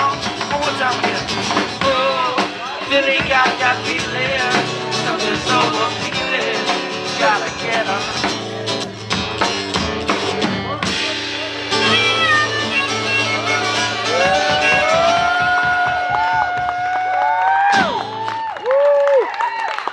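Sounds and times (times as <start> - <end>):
drum kit playing: 0.0 - 17.0
steady bass line: 0.0 - 17.0
acoustic guitar: 0.0 - 18.5.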